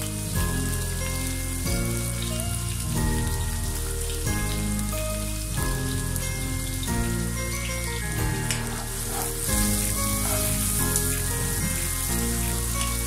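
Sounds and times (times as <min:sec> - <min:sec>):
background music with sustained chords: 0:00.0 - 0:13.0
onions sizzling in hot oil: 0:00.0 - 0:13.0.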